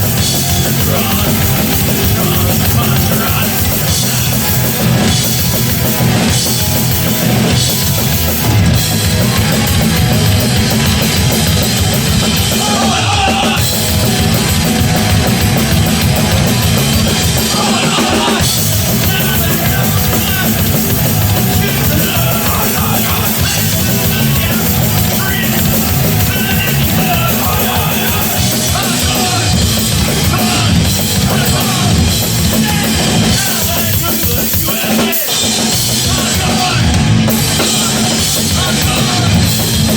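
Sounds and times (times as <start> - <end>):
live punk band playing: 0.0 - 39.9.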